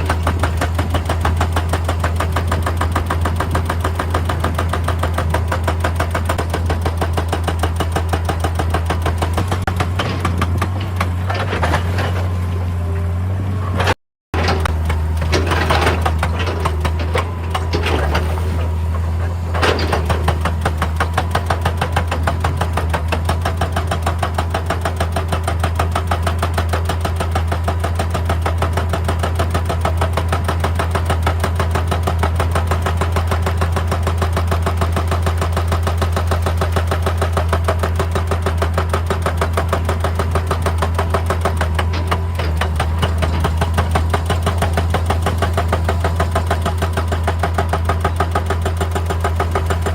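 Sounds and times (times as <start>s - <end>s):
excavator diesel engine droning: 0.0s - 49.9s.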